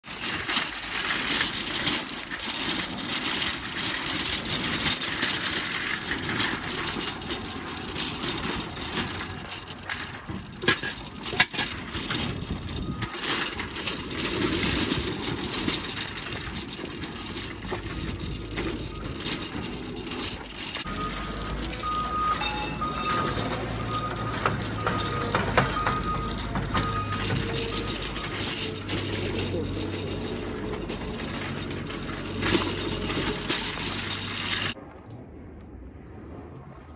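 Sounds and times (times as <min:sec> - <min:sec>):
metal clanks: 0:00.0 - 0:34.8
shopping cart rattling over pavement: 0:00.0 - 0:34.8.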